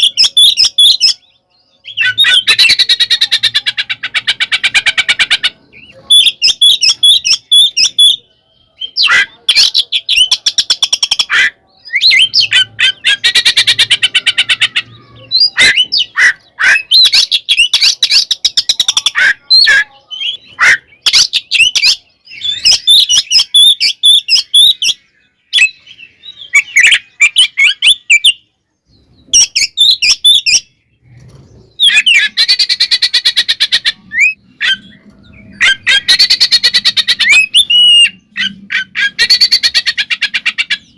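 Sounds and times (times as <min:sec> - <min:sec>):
bird singing harsh chatter and whistles: 0:00.0 - 0:40.9.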